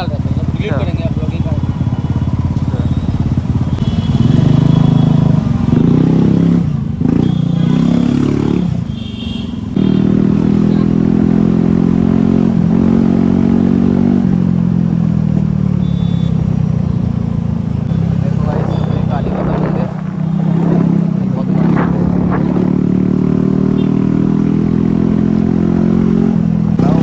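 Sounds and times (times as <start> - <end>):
scooter engine running: 0.0 - 9.1, 14.4 - 27.0.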